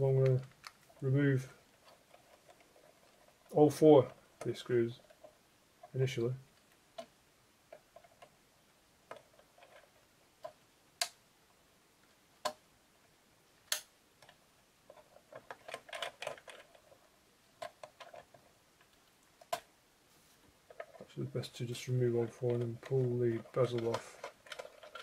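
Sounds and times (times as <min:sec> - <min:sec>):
small clicks and rattles: 0:00.0 - 0:08.4, 0:09.0 - 0:11.2, 0:13.7 - 0:19.7, 0:20.6 - 0:25.0.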